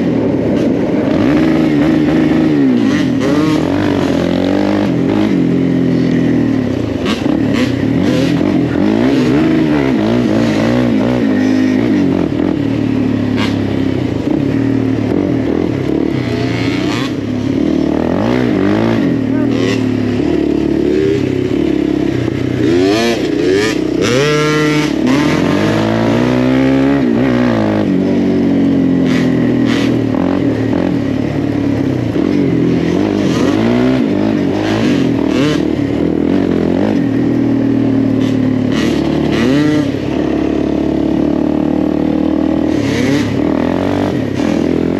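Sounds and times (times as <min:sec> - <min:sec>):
engine revving up and down: 0:00.0 - 0:37.2, 0:37.8 - 0:44.9.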